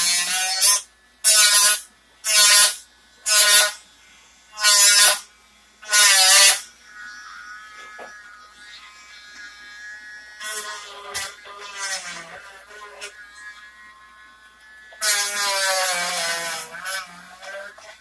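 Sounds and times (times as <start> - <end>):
high-speed power tool buzzing: 0.0 - 18.0.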